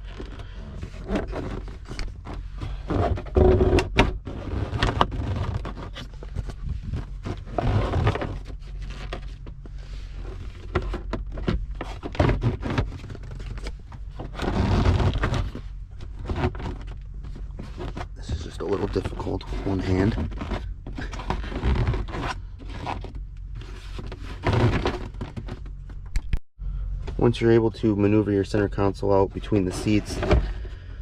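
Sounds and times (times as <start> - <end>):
plastic scraping against seats: 0.0 - 26.0, 29.4 - 30.8.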